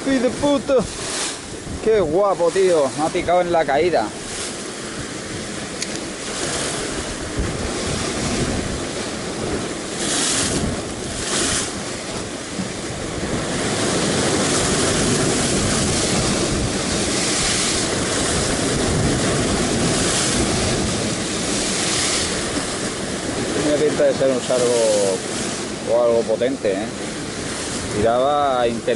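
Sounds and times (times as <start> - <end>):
surf breaking against rocks: 0.0 - 28.9
wind buffeting microphone: 0.0 - 28.9.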